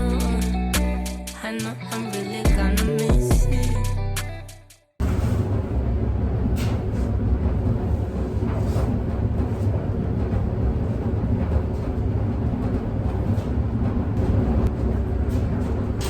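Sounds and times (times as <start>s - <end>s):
laundry machine rumbling: 0.0s - 4.0s, 5.0s - 16.0s.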